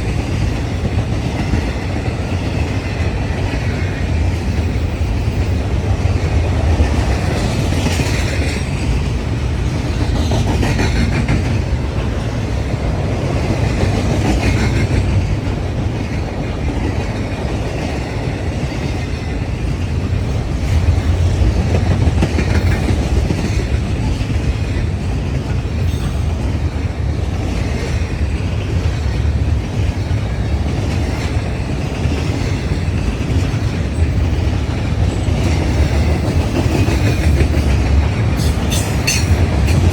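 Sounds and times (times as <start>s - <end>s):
freight train rumble: 0.0s - 39.9s.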